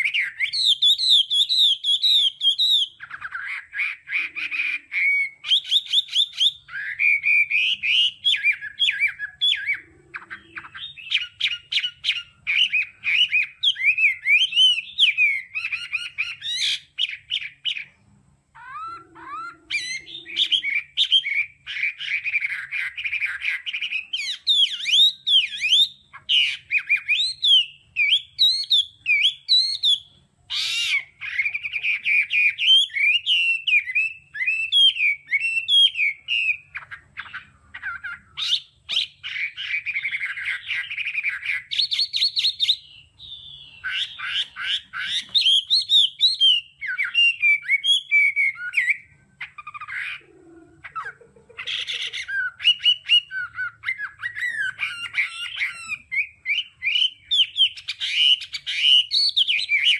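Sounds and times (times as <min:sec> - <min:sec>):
bird singing whistled phrases: 0:00.0 - 0:17.9, 0:18.5 - 0:59.9.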